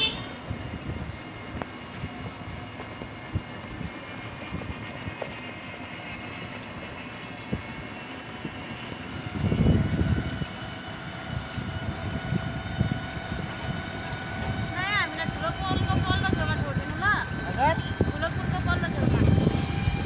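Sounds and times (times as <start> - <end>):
road and wind noise: 0.0 - 20.0
vehicle engine running: 0.0 - 20.0.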